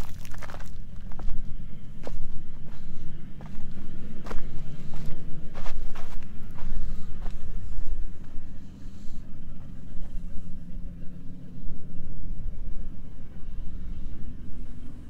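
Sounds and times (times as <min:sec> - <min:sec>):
faint steady hum: 0:00.0 - 0:15.0
low rumble: 0:00.0 - 0:15.0.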